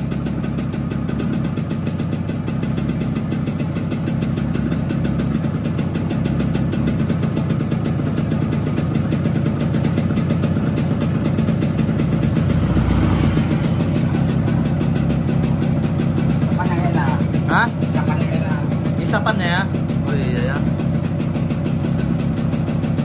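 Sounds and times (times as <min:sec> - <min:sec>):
two-stroke motorcycle engine running: 0:00.0 - 0:23.0.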